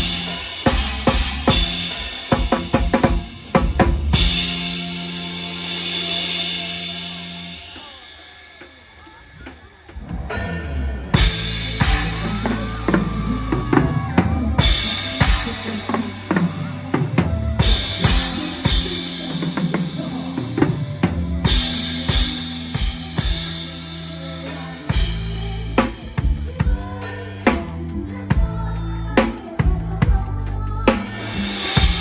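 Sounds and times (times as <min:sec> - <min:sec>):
drum kit: 0:00.0 - 0:32.0
live band music: 0:00.0 - 0:32.0.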